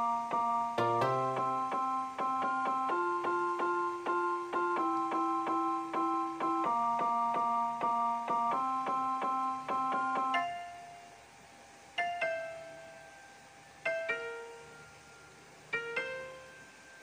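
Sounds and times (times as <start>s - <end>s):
light piano-like keyboard music: 0.0s - 17.0s.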